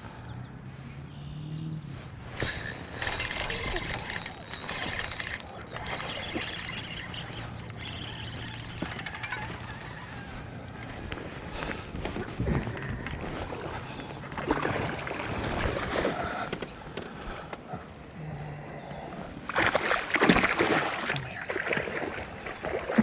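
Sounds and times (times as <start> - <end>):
water splashing against boat: 2.3 - 17.2, 19.5 - 23.0.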